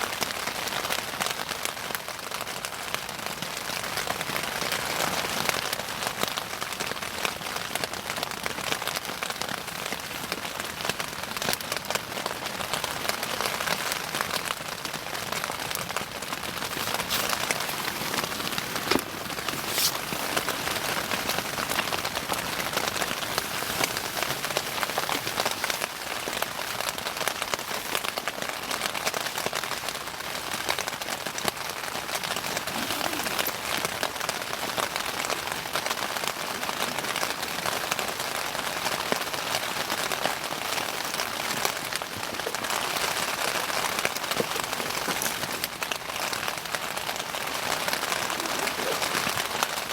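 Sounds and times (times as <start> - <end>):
bonfire crackling: 7.6 - 49.9.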